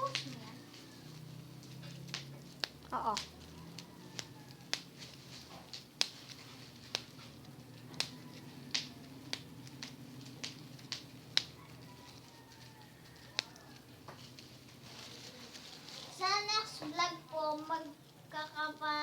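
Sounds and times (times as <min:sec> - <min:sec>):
bubble wrap popping: 0:00.0 - 0:19.0.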